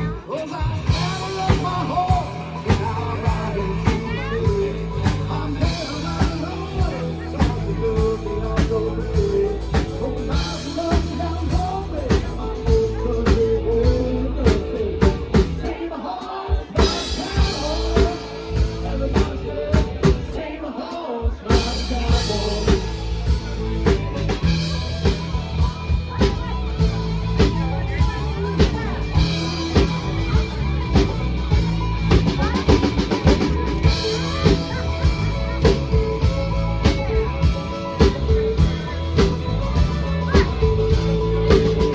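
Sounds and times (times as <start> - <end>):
country-rock band playing: 0.0 - 41.9.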